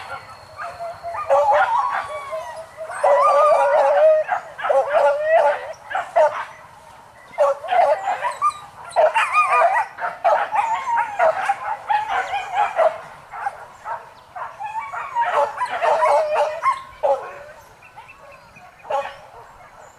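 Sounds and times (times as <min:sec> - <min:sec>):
dogs barking and yelping: 0:00.0 - 0:19.9.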